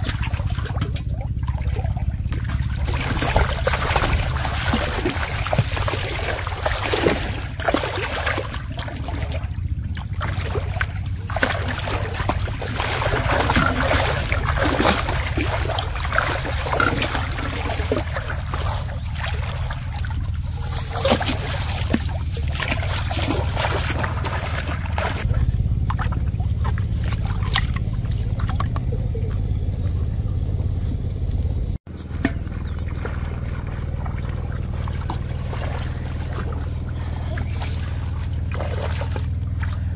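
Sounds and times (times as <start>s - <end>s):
water splashing and trickling: 0.0s - 29.8s, 31.8s - 39.9s
low rumble: 0.0s - 39.9s.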